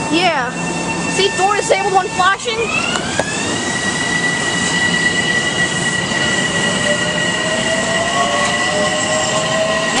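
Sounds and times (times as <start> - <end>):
rumble of train cars: 0.0 - 10.0
steady high whine: 0.0 - 10.0
traction motor whine rising: 0.0 - 10.0.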